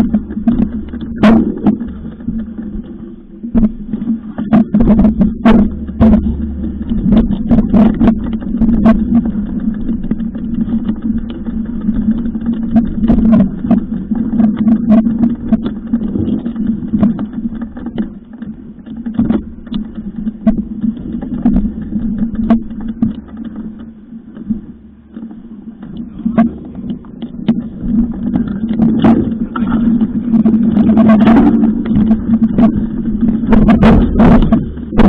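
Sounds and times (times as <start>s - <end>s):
mountain bike rattling and knocking: 0.0s - 35.0s
steady low hum: 0.0s - 35.0s.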